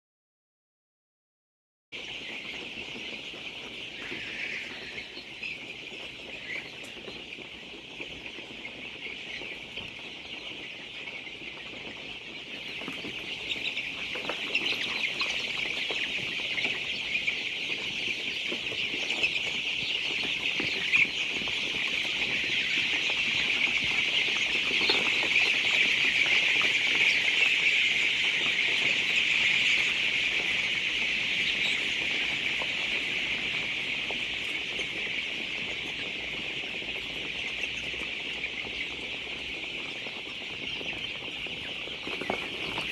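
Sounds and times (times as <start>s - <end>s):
flock of chickens chattering: 2.0s - 42.9s.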